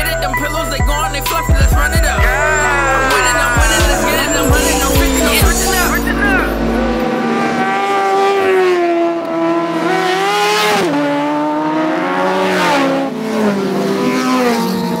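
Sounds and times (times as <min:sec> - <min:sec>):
motorcycle engines revving high: 0:00.0 - 0:15.0.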